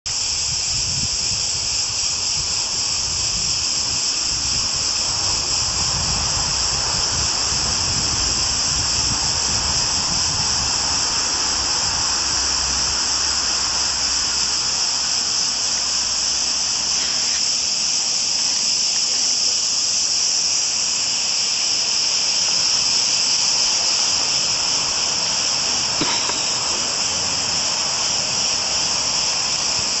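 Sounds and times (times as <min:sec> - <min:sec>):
cicadas chorus: 0:00.1 - 0:30.0.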